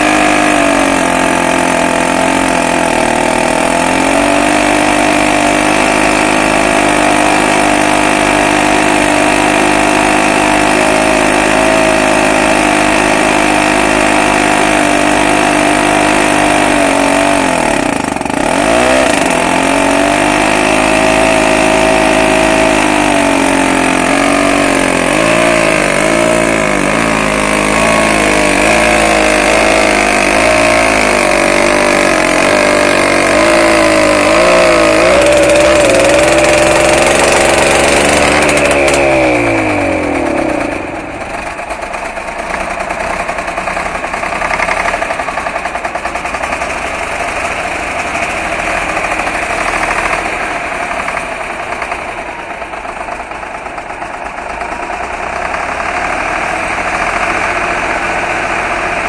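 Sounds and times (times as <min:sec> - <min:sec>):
high whine winding down: 0:00.0 - 0:53.6
tractor diesel engine running: 0:00.0 - 0:59.0.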